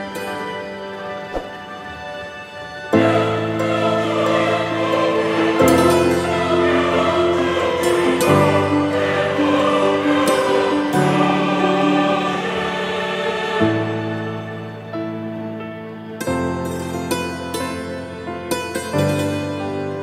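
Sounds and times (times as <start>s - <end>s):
slow music of long held chords: 0.0s - 20.0s.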